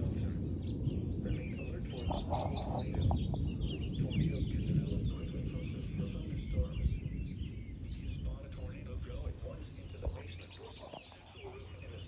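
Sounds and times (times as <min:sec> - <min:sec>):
low rumbling noise: 0:00.0 - 0:12.0
small birds chirping: 0:00.0 - 0:12.0.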